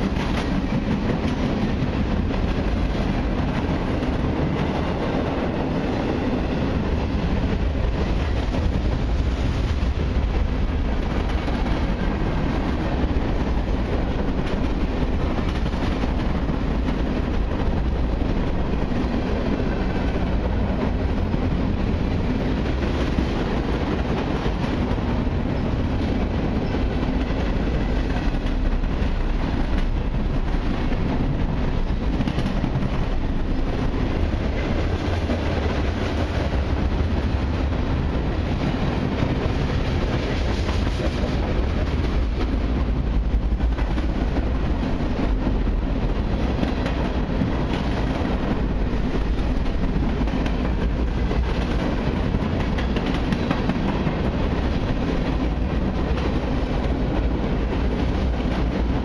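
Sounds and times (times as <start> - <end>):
freight train rumbling past: 0.0 - 59.0
steel wheels clattering on rails: 0.0 - 59.0.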